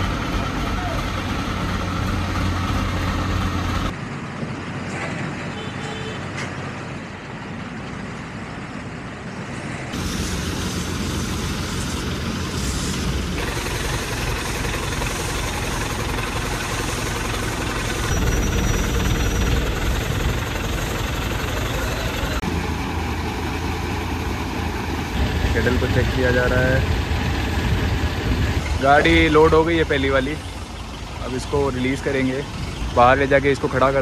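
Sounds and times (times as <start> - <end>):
heavy diesel engines running: 0.0 - 34.0.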